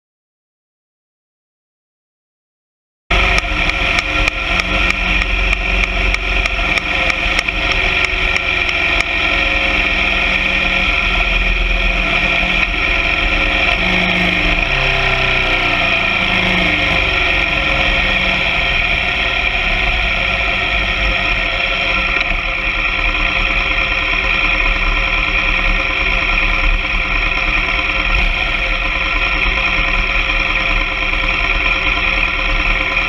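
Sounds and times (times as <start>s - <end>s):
motorcycle engine running: 3.1s - 33.0s.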